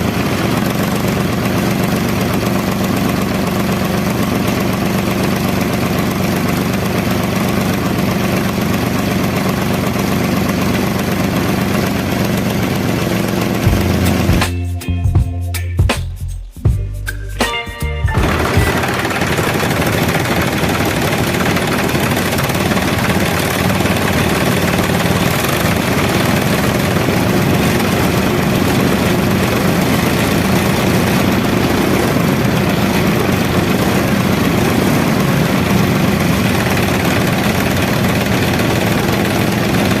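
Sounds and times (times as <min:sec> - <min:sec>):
engine running steadily: 0:00.0 - 0:15.7, 0:16.7 - 0:40.0.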